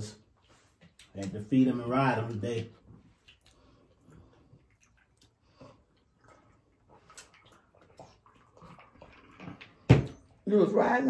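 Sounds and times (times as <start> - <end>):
people chewing: 0.4 - 10.4.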